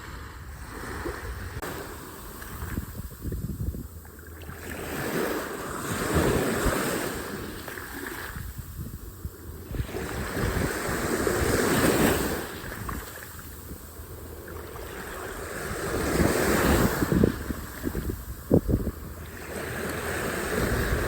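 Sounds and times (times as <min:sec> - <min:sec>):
surf washing onto beach: 0:00.0 - 0:03.6, 0:04.3 - 0:08.7, 0:09.4 - 0:21.0
wind buffeting microphone: 0:00.0 - 0:21.0.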